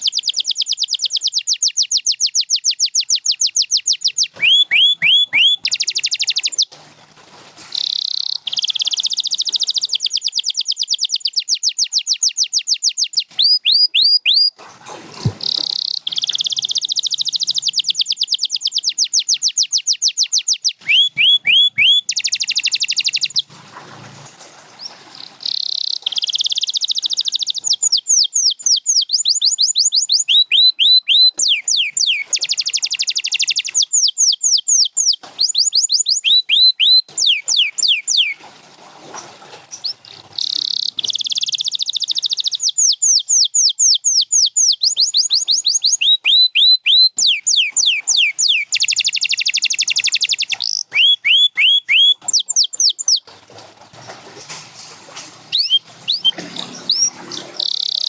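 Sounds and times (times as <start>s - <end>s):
canary singing trills and whistles: 0.0s - 6.7s, 7.7s - 14.6s, 15.2s - 23.5s, 24.7s - 38.4s, 39.7s - 53.3s, 55.5s - 58.0s.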